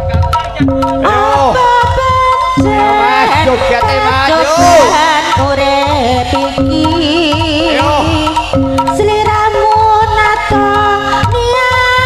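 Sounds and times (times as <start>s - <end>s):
hand drum rhythm: 0.0s - 12.0s
held gamelan tones: 0.0s - 12.0s
ornamented melody line: 0.0s - 12.0s.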